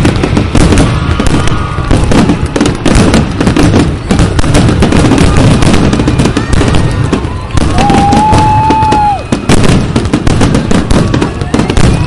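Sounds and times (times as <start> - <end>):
firework booms and crackles: 0.0 - 12.0.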